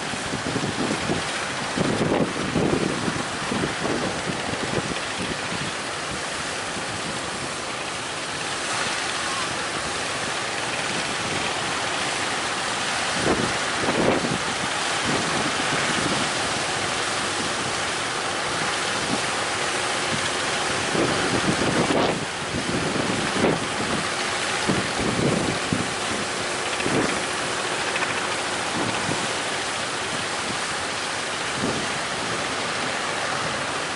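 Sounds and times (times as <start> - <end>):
rough sea waves: 0.0 - 33.9
wind buffeting microphone: 0.0 - 33.9.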